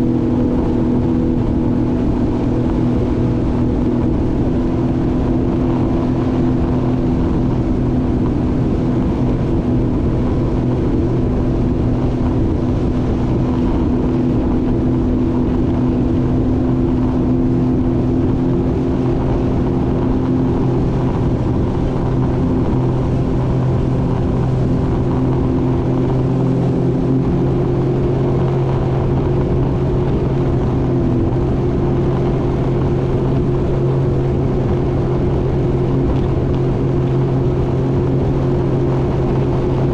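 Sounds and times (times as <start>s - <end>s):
jet ski engine running: 0.0s - 39.9s
water and wind rushing: 0.0s - 39.9s.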